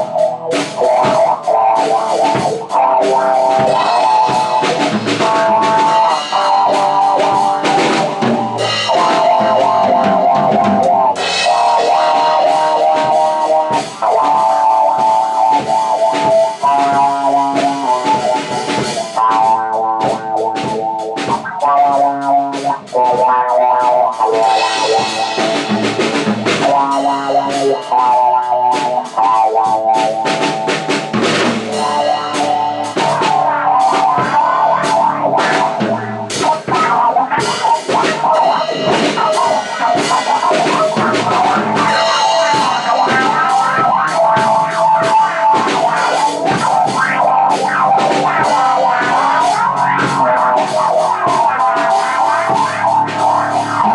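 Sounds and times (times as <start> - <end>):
rock music: 0.0 - 53.9.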